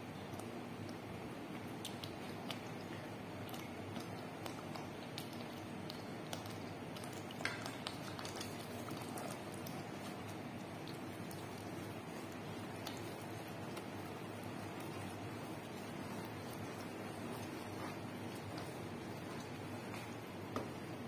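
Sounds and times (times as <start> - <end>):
thick sauce bubbling and popping: 0.0 - 21.0.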